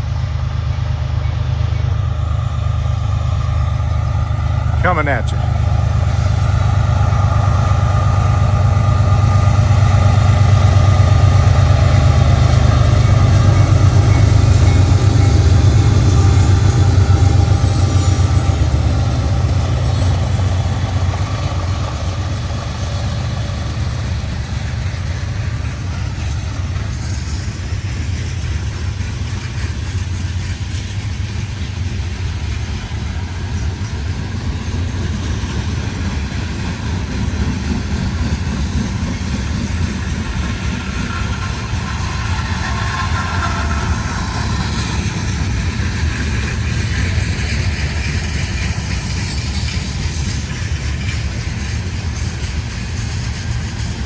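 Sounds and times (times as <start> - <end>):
diesel locomotive engine rumble: 0.0 - 54.0
train cars rolling past: 0.0 - 54.0.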